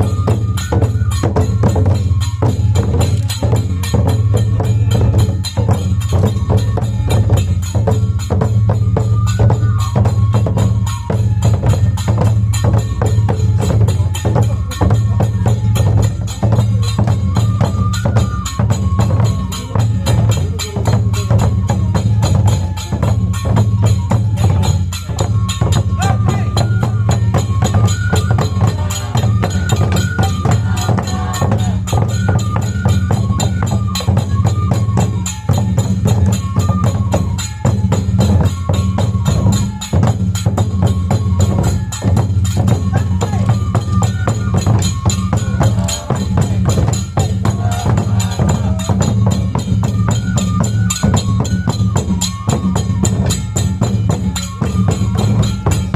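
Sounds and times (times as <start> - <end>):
clacking percussion: 0.0 - 55.9
fast steady drumming: 0.0 - 55.9.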